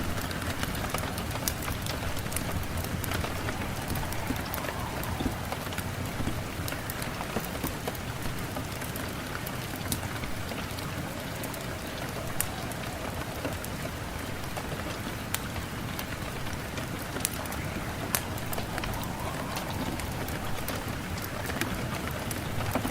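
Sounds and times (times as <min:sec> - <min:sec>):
rain drops pattering: 0:00.0 - 0:22.9.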